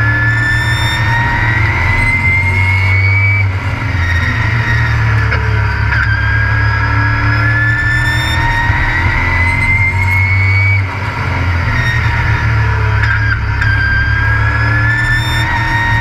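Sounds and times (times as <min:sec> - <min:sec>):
race truck engine accelerating: 0:00.0 - 0:16.0.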